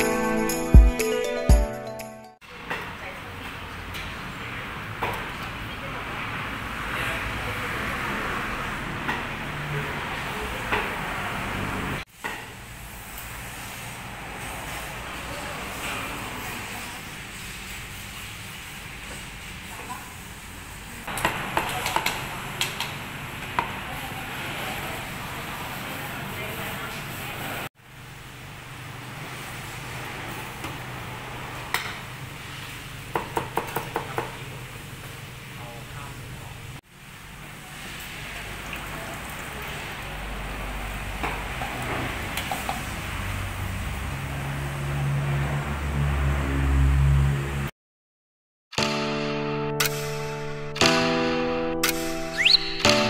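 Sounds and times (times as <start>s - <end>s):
shop background noise: 2.4s - 45.8s.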